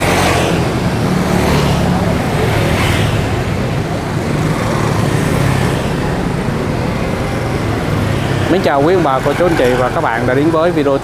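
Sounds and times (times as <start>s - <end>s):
indistinct voices: 0.0s - 11.0s
road traffic noise: 0.0s - 11.0s.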